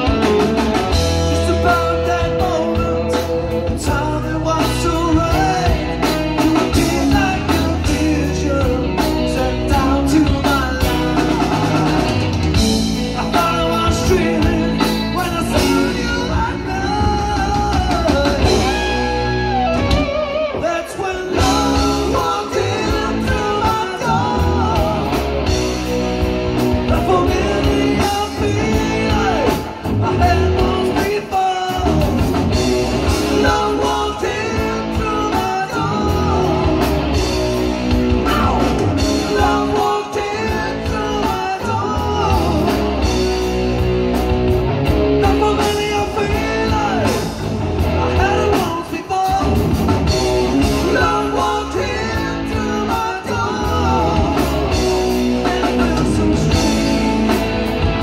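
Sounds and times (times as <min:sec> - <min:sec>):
bass guitar: 0:00.0 - 0:58.0
drum kit: 0:00.0 - 0:58.0
electric guitars: 0:00.0 - 0:58.0
person singing: 0:01.3 - 0:12.2, 0:12.9 - 0:25.8, 0:26.8 - 0:32.3, 0:33.1 - 0:37.4, 0:38.1 - 0:43.3, 0:45.2 - 0:57.7.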